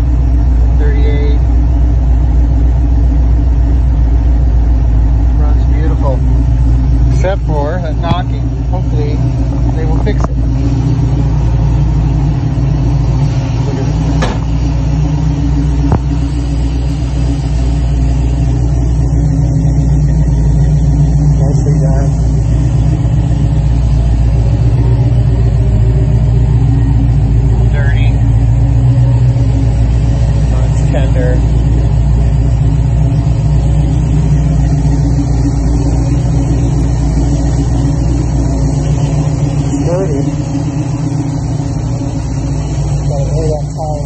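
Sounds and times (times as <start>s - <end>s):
engine running with knock: 0.0s - 44.0s.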